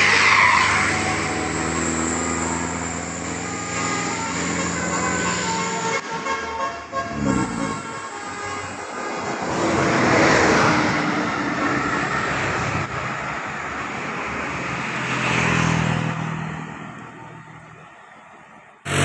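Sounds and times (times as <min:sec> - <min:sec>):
bus driving past: 0:00.0 - 0:06.2, 0:06.9 - 0:19.0.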